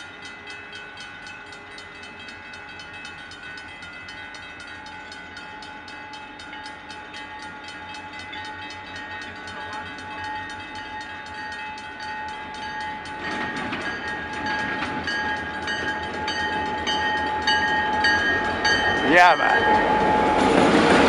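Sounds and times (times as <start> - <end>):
diesel locomotive engine and wheels: 0.0 - 21.0
level crossing warning bell: 0.0 - 21.0.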